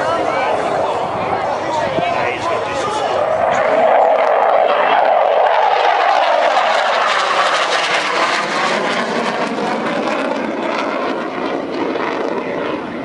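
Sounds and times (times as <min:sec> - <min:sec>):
jet engine roar during pass: 0:00.0 - 0:13.0.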